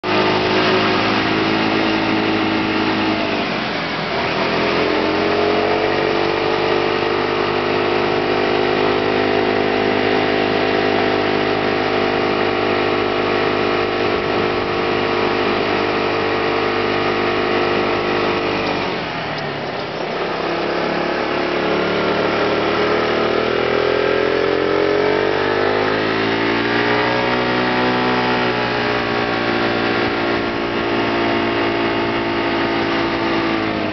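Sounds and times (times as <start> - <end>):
motor scooter engine running: 0.0 - 33.9.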